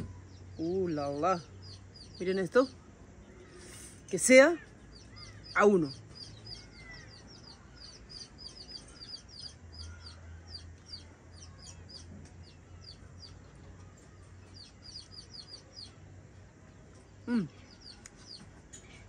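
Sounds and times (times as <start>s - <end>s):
birds chirping: 0.0s - 19.0s
faint low hum: 0.0s - 19.0s.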